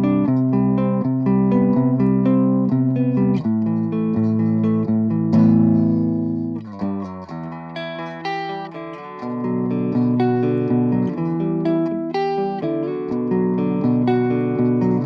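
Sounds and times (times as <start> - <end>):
electric guitar through amplifier: 0.0 - 15.0.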